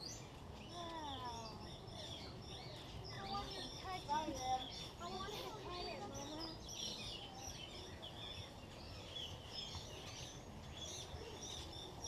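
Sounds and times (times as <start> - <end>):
small birds chirping and twittering: 0.0 - 12.0.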